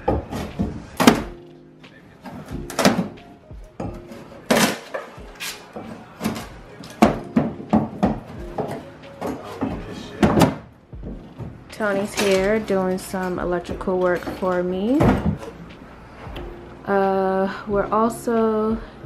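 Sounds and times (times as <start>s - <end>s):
background music with steady beat: 0.0s - 19.0s.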